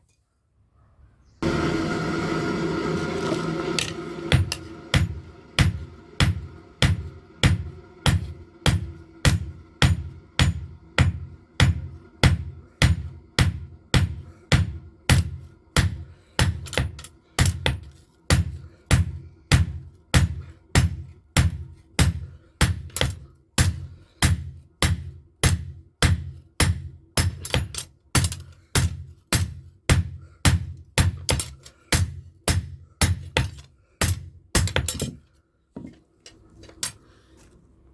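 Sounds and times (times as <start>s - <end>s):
hammer blows on anvil: 3.7s - 35.1s.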